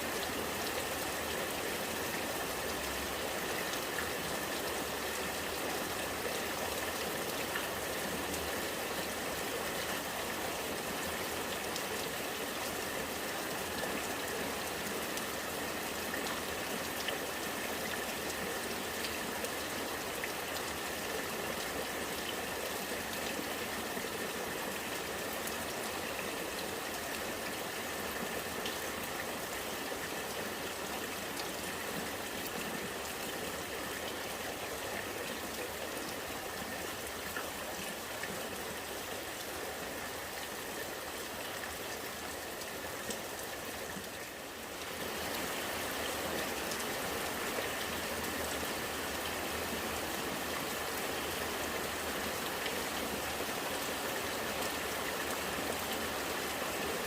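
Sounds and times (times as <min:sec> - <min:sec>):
rainwater running and gurgling: 0:00.0 - 0:57.0
steady rain: 0:00.0 - 0:57.0.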